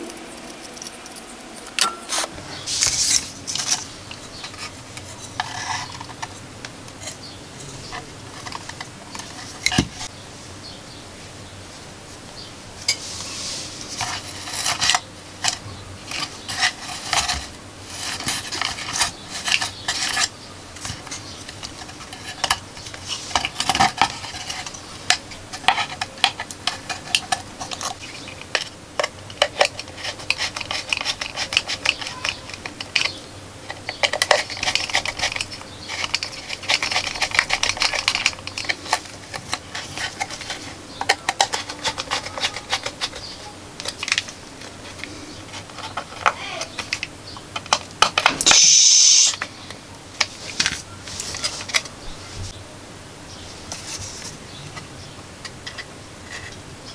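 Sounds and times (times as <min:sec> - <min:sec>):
clicks taps and scraping: 0:00.0 - 0:10.1, 0:12.8 - 0:52.0, 0:53.7 - 0:56.6.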